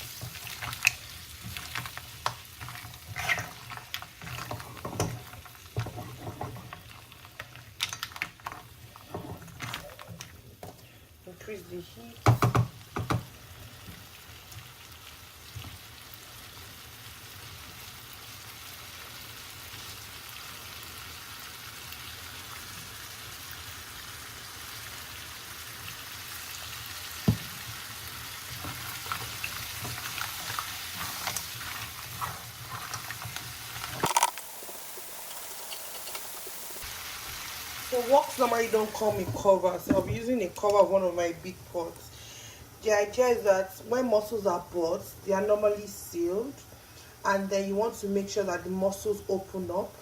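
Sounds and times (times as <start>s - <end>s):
mussels sizzling in a wok: 0.0s - 50.0s.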